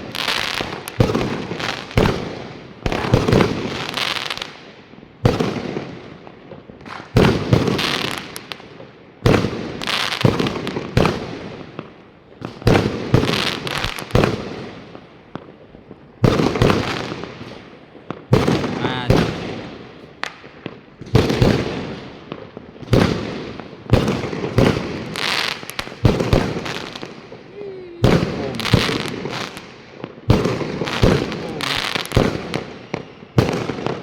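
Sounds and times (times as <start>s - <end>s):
fireworks exploding: 0.0s - 34.0s.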